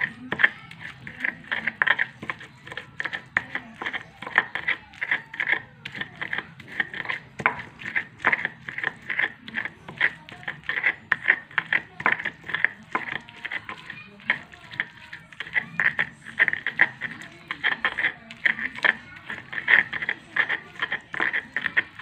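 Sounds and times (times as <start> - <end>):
pestle grinding in stone mortar: 0.0 - 22.0.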